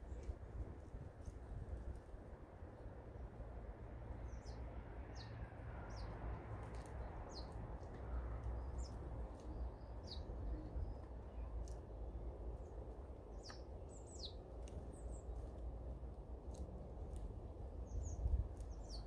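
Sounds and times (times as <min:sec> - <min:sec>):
small birds chirping: 0:00.0 - 0:01.4, 0:02.6 - 0:19.0.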